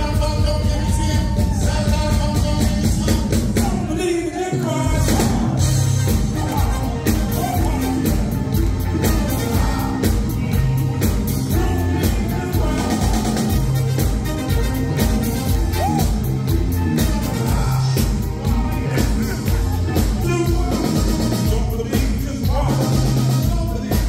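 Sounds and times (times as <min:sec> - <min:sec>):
live rock band playing: 0:00.0 - 0:04.1, 0:04.8 - 0:24.0
steady drum beat: 0:00.0 - 0:24.0.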